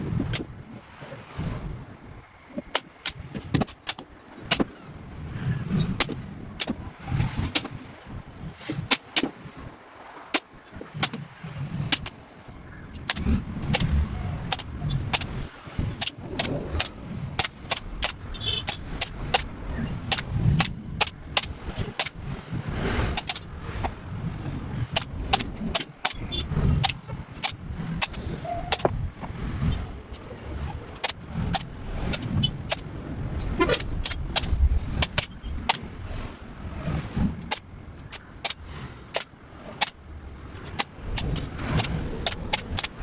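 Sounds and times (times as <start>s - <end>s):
sharp clicks or snaps: 2.5s - 4.8s, 6.0s - 7.8s, 10.3s - 11.2s, 11.8s - 35.9s, 37.4s - 43.0s.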